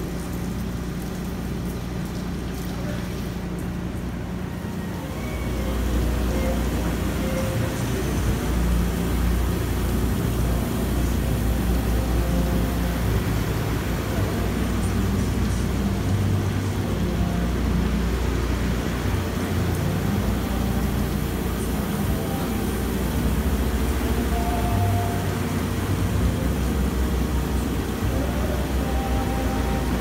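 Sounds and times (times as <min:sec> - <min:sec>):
coolant hiss: 0:00.0 - 0:30.0
milling machine hum: 0:00.0 - 0:30.0.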